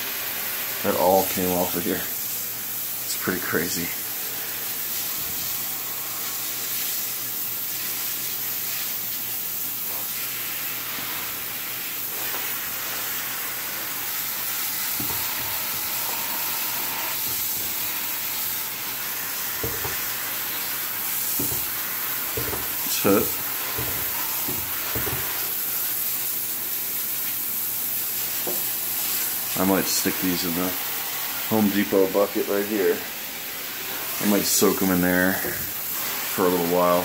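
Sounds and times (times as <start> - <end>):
hose nozzle spraying water: 0.0 - 37.0.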